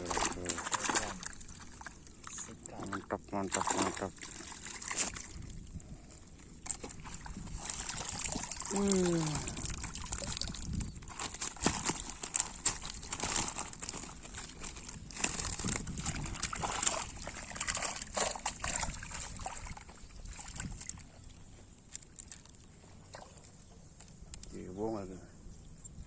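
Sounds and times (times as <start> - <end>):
water sloshing and splashing: 0.0 - 23.7.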